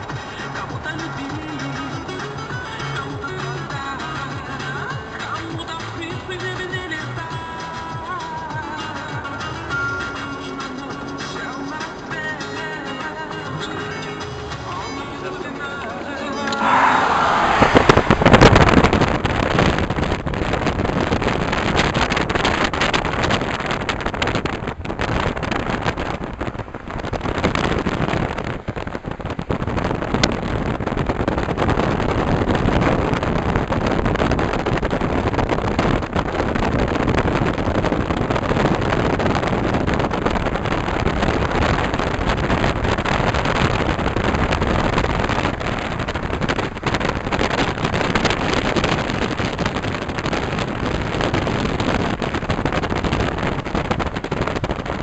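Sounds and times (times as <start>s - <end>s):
wind and tyre noise: 0.0s - 55.0s.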